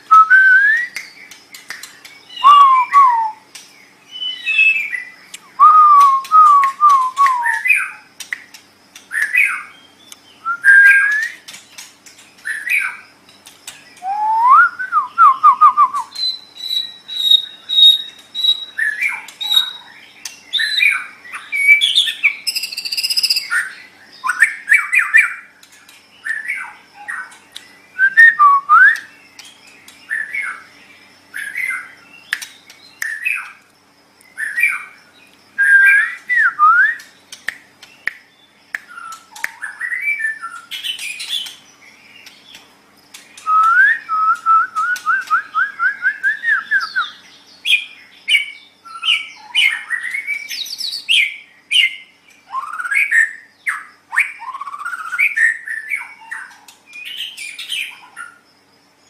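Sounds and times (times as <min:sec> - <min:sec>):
songbird whistling song: 0:00.0 - 0:59.0.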